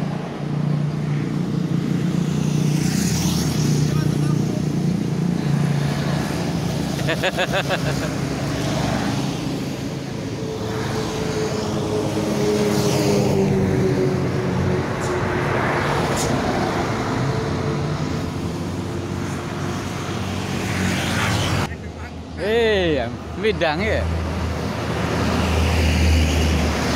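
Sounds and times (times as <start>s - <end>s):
tyre and road noise: 0.0s - 26.9s
vehicle engines running: 0.0s - 26.9s.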